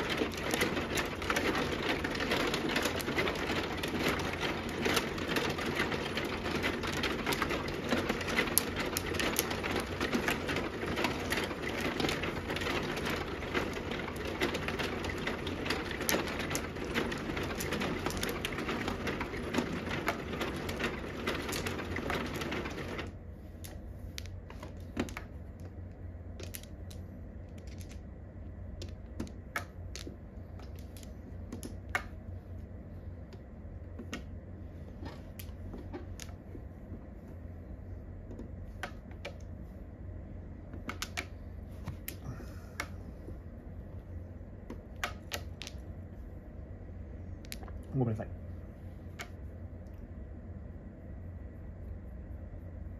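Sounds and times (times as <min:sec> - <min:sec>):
mahjong tiles clicking: 0:00.0 - 0:37.6, 0:38.2 - 0:39.7, 0:40.6 - 0:43.1, 0:44.6 - 0:46.1
shuffling mechanism rattling: 0:00.0 - 0:49.9.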